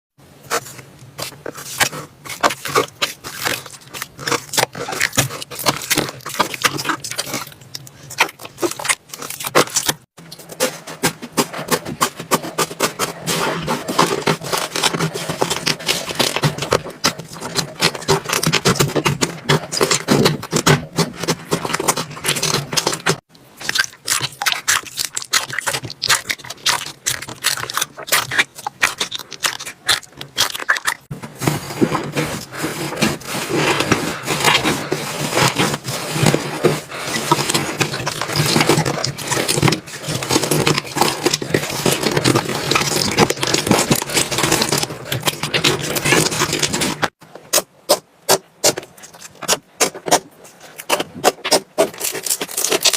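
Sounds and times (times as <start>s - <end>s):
slime crackling and squelching: 0.5s - 47.2s, 48.7s - 52.9s.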